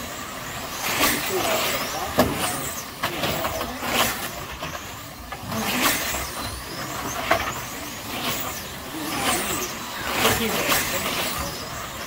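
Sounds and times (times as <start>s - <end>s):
slot car motors whining: 0.0s - 12.0s.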